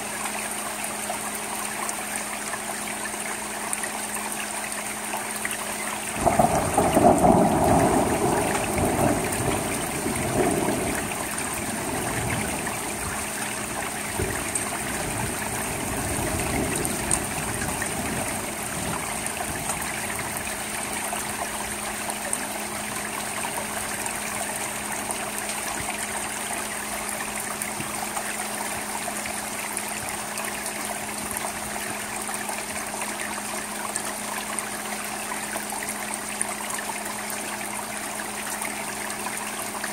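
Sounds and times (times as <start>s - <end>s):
rain falling on a roof: 0.0s - 39.9s
water trickling: 0.0s - 39.9s.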